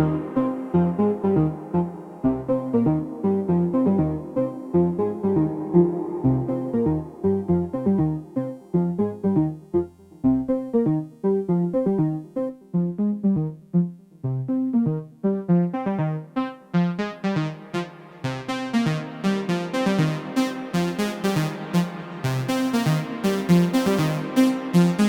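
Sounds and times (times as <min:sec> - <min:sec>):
synth bass line: 0:00.0 - 0:12.2, 0:14.2 - 0:25.0
synthesizer sequenced pattern: 0:00.0 - 0:25.0.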